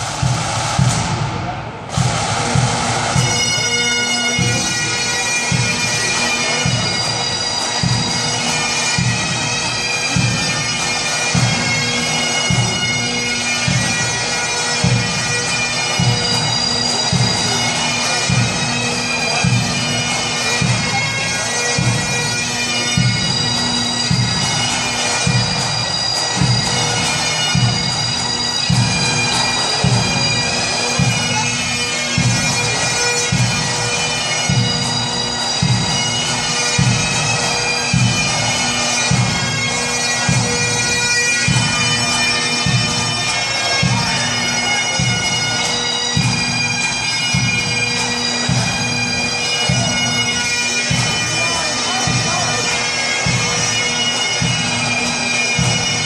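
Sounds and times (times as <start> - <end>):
bagpipes playing a march: 0.0 - 56.0.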